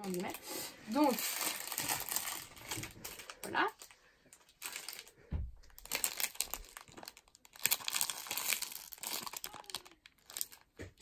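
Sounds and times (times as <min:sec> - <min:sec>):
crinkly packaging rustling: 0:00.0 - 0:11.0.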